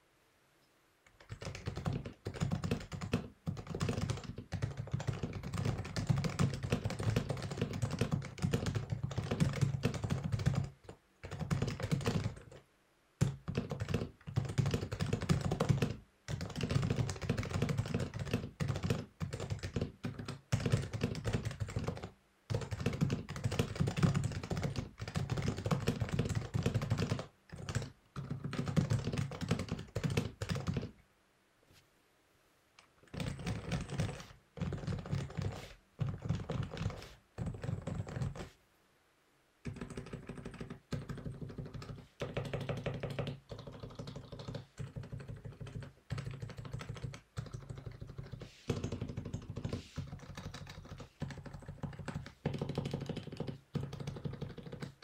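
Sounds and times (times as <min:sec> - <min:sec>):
muted keyboard typing: 0:01.1 - 0:12.6, 0:13.2 - 0:31.0, 0:33.0 - 0:38.5, 0:39.6 - 0:55.0.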